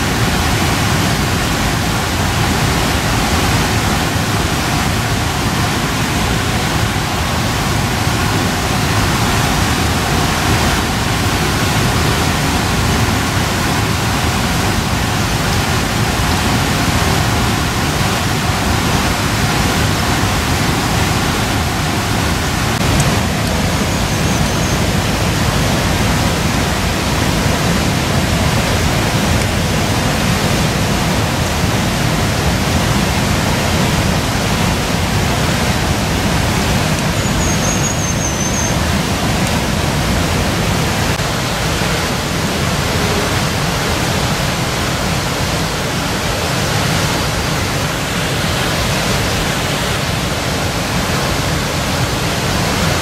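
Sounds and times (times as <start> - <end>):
loud rushing noise: 0.0 - 37.9, 38.7 - 53.0.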